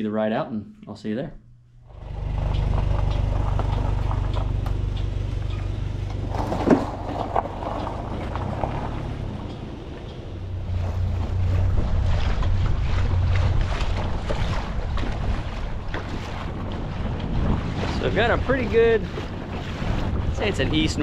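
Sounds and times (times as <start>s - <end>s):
wind buffeting microphone: 2.2s - 21.0s.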